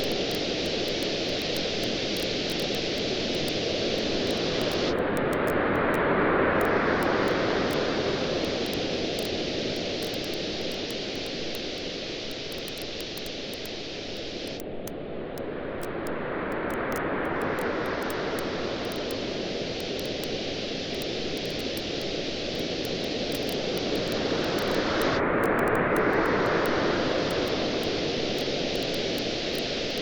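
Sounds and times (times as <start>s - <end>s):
campfire crackling and popping: 0.0s - 5.6s, 8.4s - 14.9s, 16.6s - 30.0s
waves washing onto beach: 0.0s - 14.6s, 15.5s - 30.0s.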